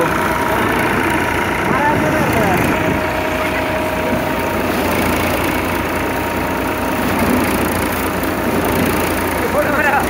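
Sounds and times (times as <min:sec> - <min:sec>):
thresher drum threshing straw: 0:00.0 - 0:10.0
tractor engine running: 0:00.0 - 0:10.0.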